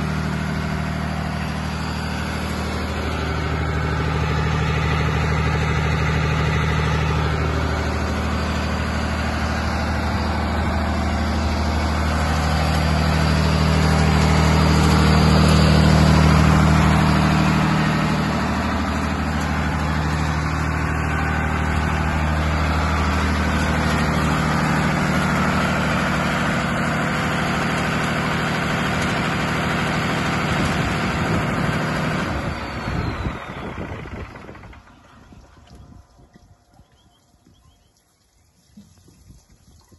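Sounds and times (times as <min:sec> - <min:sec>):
diesel engine running: 0:00.0 - 0:37.8.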